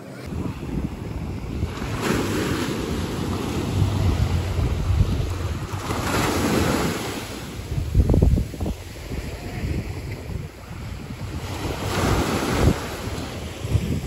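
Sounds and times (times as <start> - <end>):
waves washing on shore: 0.0 - 14.0
wind buffeting microphone: 0.3 - 14.0.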